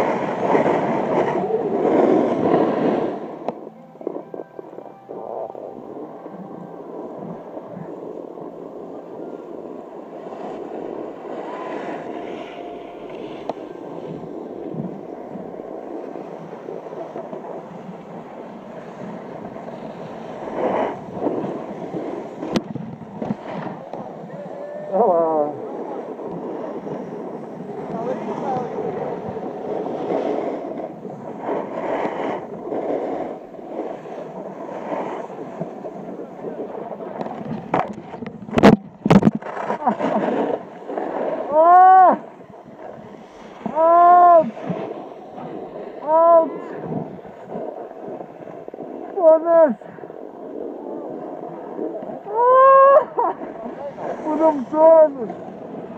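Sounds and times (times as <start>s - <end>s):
snowboard scraping on snow: 0.0s - 4.5s, 5.2s - 55.9s
wind on microphone: 0.0s - 55.9s.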